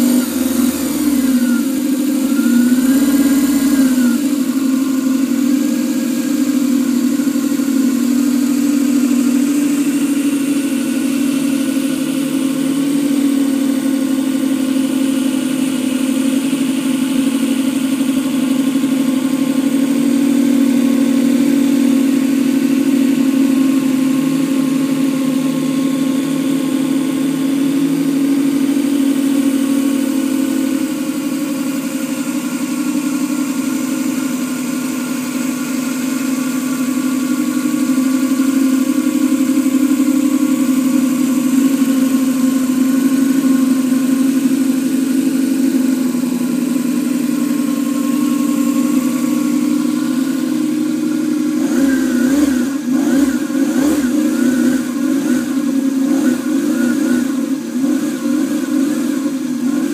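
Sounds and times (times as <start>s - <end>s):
model engine running: 0.0s - 59.9s.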